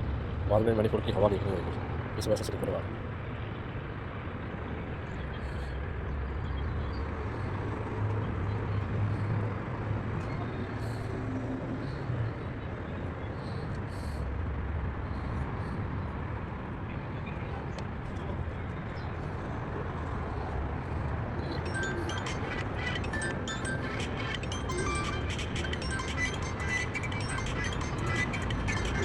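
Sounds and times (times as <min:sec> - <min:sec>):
traffic rumble: 0:00.0 - 0:29.0.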